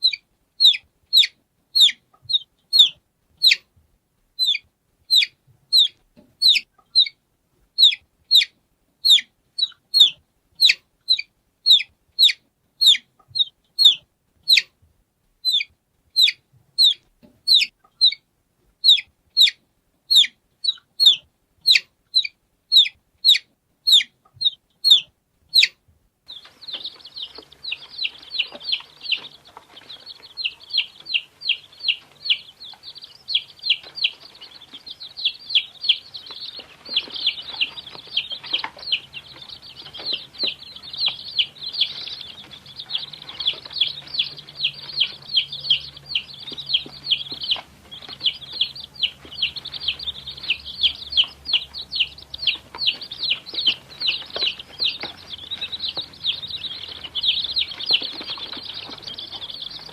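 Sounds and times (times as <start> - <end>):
baby chicks peeping: 0.0 - 59.9
background hiss: 0.0 - 59.9.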